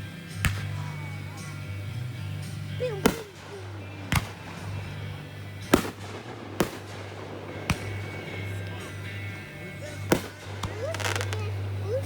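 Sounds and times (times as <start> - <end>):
fireworks bangs: 0.4 - 12.0.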